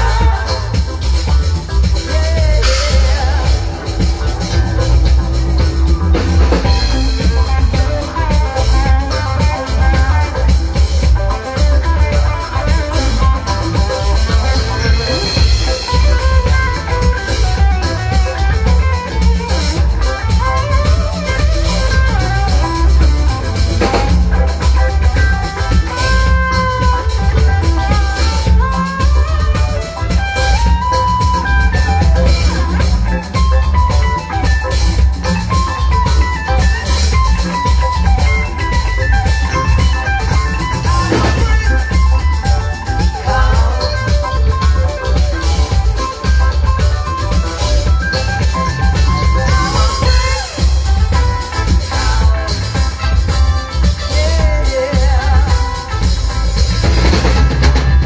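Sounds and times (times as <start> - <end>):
drum kit: 0.0 - 58.0
guitar: 0.0 - 58.0
heavy bass line: 0.0 - 58.0.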